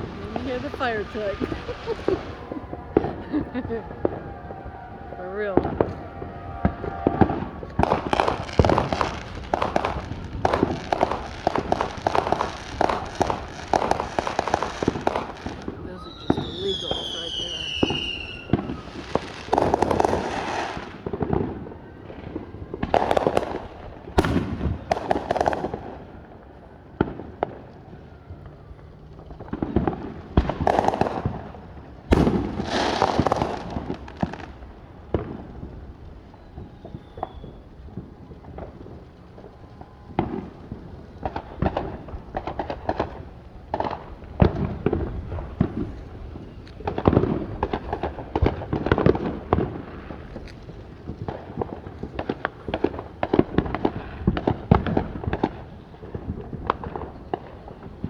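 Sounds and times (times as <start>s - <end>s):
fireworks bangs and booms: 0.0s - 58.0s
fireworks crackling: 0.0s - 58.0s.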